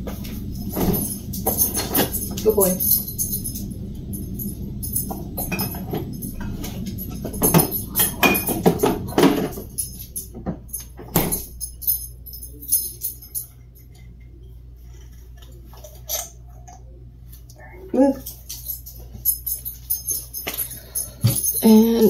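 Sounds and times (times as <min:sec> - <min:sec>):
bottles and jars clinking: 0:00.1 - 0:14.2, 0:18.0 - 0:22.0.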